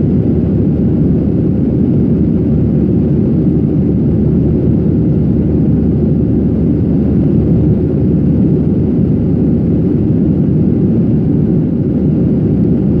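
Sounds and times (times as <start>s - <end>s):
jet airliner cabin noise: 0.0s - 13.0s.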